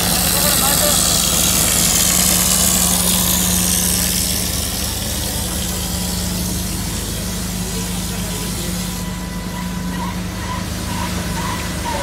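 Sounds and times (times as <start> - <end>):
plastering machine humming: 0.0 - 12.0.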